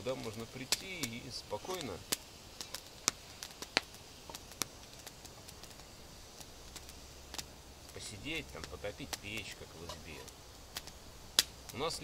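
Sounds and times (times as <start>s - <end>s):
campfire crackling and popping: 0.0s - 12.0s
faint background hiss: 0.0s - 12.0s.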